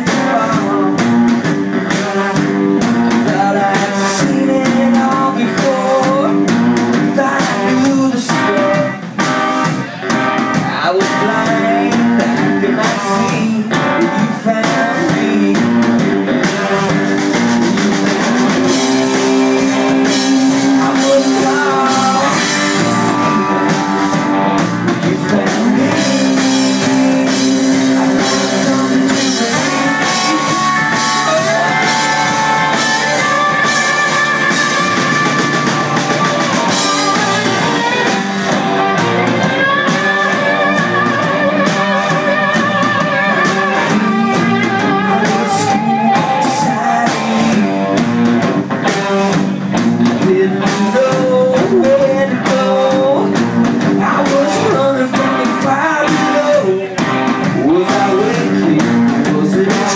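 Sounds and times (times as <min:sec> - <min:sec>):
man singing: 0:00.0 - 0:48.0, 0:50.0 - 0:59.9
drum kit: 0:00.0 - 0:59.9
electric guitars: 0:00.0 - 0:59.9.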